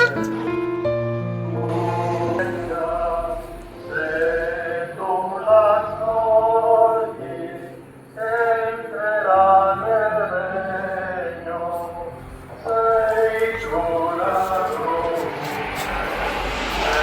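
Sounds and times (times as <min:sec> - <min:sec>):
choir-like held sung notes: 0:00.0 - 0:17.0.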